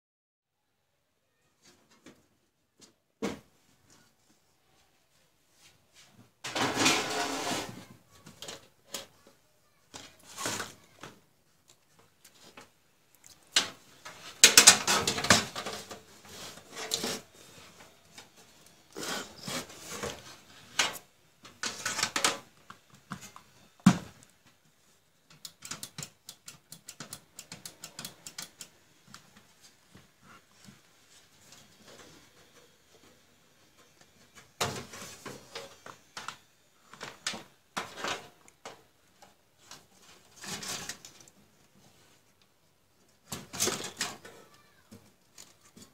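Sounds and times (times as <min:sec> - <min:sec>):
parts rustling and clattering: 0:05.6 - 0:24.6, 0:25.3 - 0:45.9.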